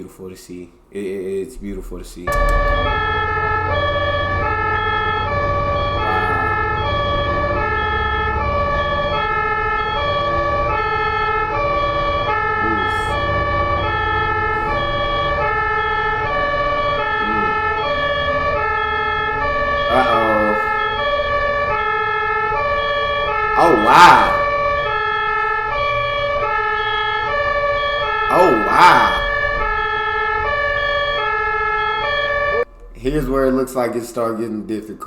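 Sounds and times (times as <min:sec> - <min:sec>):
ambulance two-tone siren: 0:02.3 - 0:32.9.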